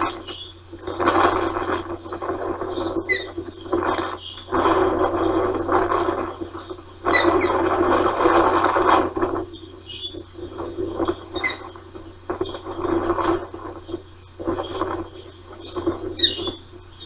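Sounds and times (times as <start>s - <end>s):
rushing noise: 0.0s - 16.6s
osprey chirping: 0.0s - 17.0s
steady low hum: 0.0s - 17.0s.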